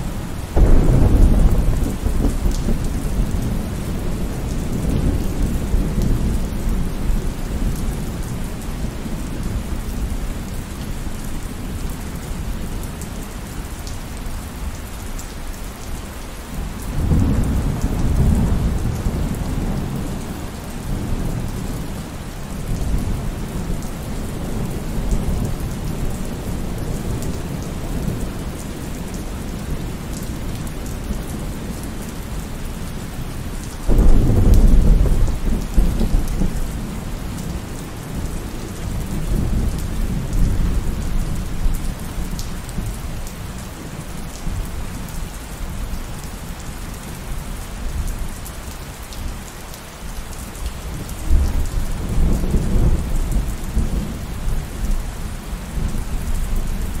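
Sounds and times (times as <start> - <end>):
heavy rain: 0.0 - 57.0
low rumble of thunder: 0.4 - 13.2, 16.6 - 48.4, 50.6 - 57.0.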